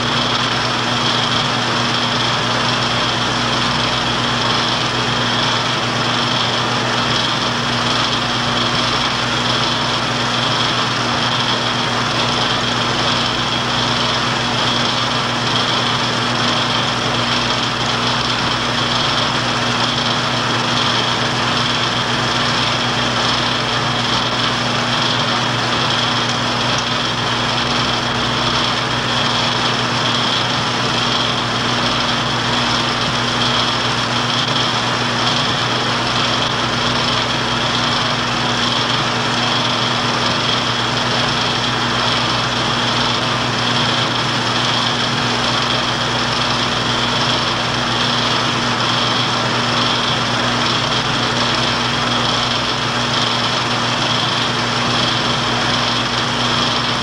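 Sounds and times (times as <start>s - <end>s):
film projector running: 0.0s - 57.0s.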